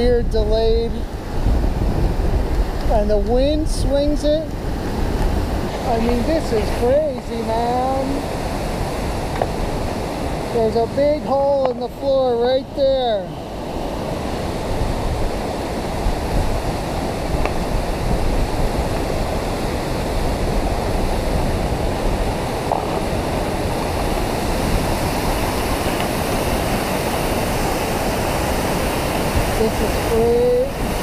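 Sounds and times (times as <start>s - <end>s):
river rushing over boulders: 0.0s - 31.0s.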